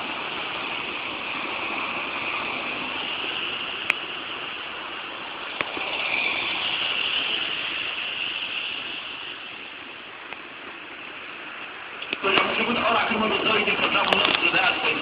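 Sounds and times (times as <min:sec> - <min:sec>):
street traffic hiss: 0:00.0 - 0:15.0.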